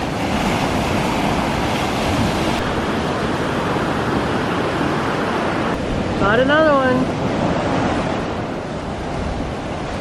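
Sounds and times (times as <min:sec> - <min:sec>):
ocean surf washing on beach: 0:00.0 - 0:10.0
wind on microphone: 0:00.0 - 0:10.0.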